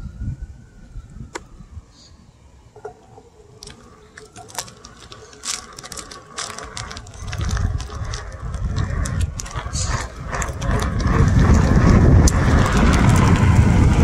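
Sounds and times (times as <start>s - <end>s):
electric motor whine: 2.6s - 14.0s
tyre crackling over asphalt: 2.8s - 14.0s.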